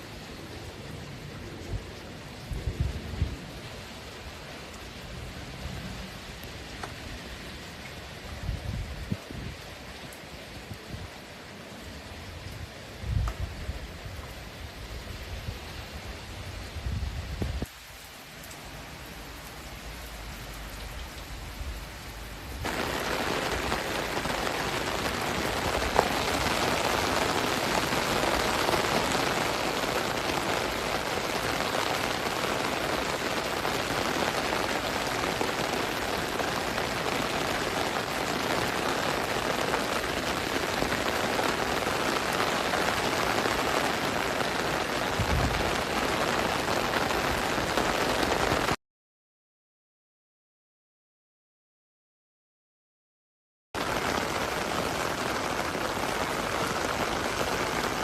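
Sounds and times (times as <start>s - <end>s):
heavy rain falling: 0.0s - 48.8s, 53.8s - 58.0s.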